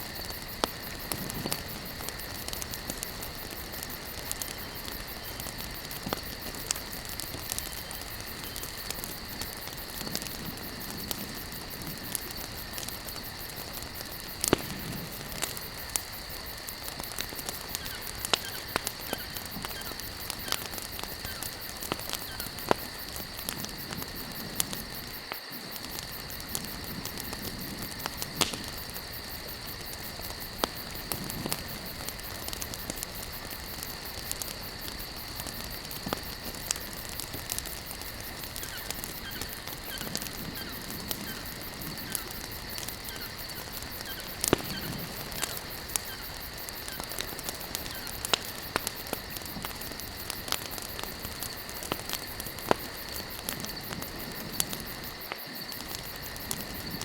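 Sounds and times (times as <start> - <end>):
campfire crackling: 0.0 - 57.0
crickets droning: 0.0 - 57.0.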